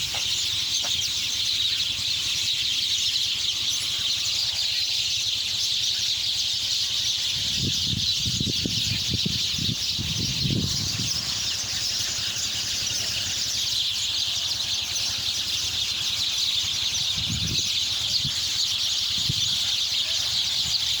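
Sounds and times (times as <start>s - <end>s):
many small birds chirping: 0.0s - 21.0s.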